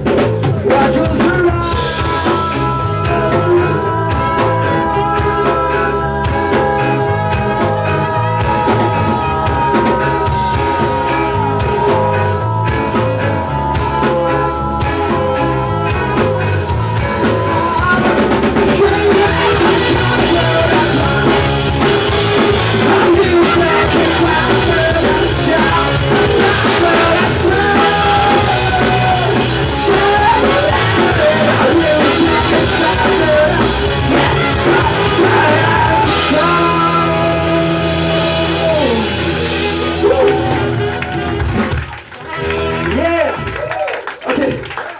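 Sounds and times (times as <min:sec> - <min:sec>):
person singing: 0:00.0 - 0:41.6
ska punk band playing: 0:00.0 - 0:44.9.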